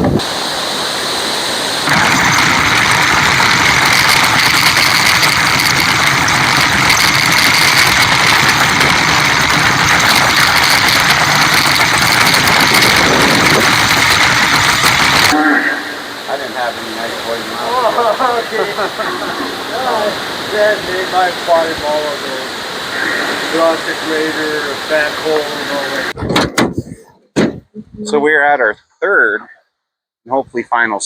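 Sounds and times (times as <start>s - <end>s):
truck engine and road noise: 0.0s - 28.4s.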